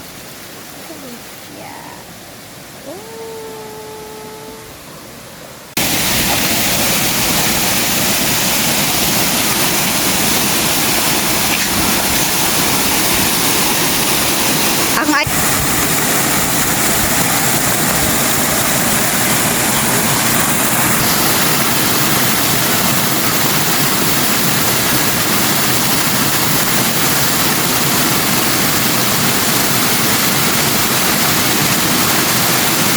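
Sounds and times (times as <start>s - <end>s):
rushing water roar: 0.0s - 32.9s.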